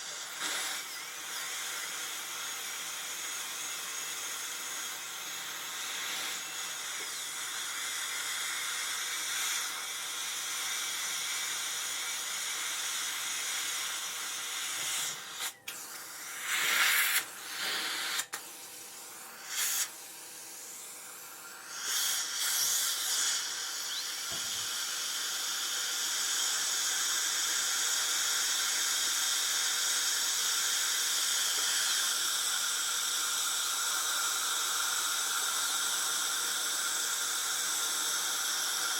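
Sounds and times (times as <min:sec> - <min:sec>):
dental drill whining: 0:00.0 - 0:38.9.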